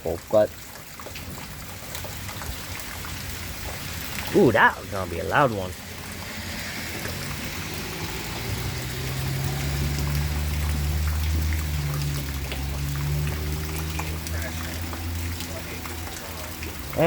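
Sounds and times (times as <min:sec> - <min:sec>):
steady rain falling: 0:00.0 - 0:17.0
water drips and splashes: 0:00.0 - 0:17.0.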